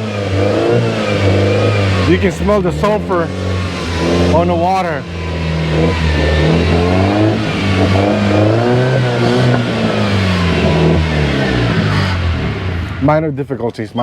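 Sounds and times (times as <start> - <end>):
boat engine droning: 0.0 - 13.2.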